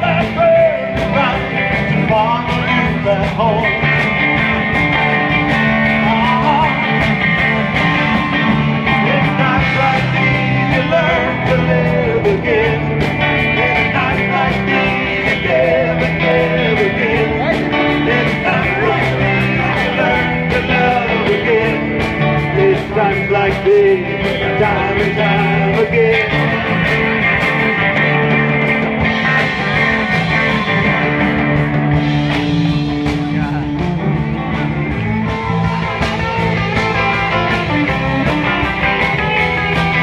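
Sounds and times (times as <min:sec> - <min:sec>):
drum kit steady beat: 0:00.0 - 0:40.0
guitars: 0:00.0 - 0:40.0.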